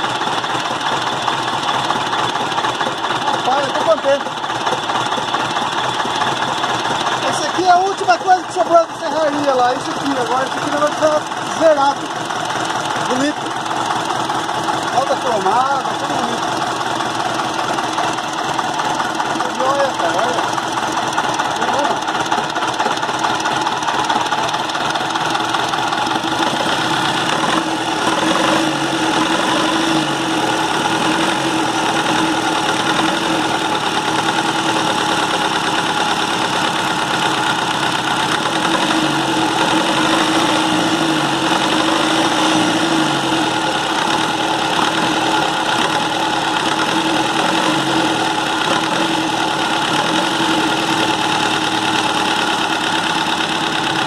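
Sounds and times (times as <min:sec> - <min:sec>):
tractor diesel engine idling: 0:00.0 - 0:54.0.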